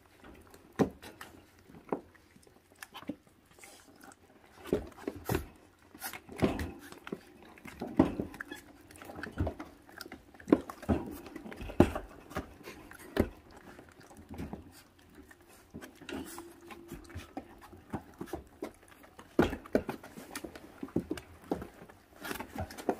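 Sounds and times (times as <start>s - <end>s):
puppies chewing: 0.0s - 22.9s
puppies making vocal sounds: 0.9s - 21.4s.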